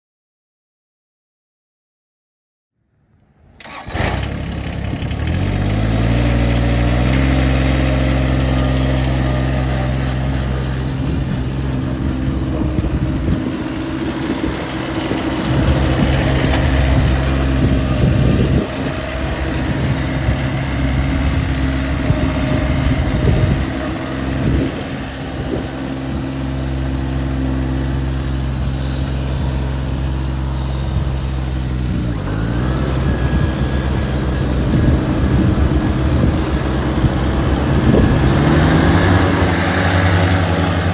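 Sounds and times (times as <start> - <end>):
riding mower engine running: 3.4 - 40.9.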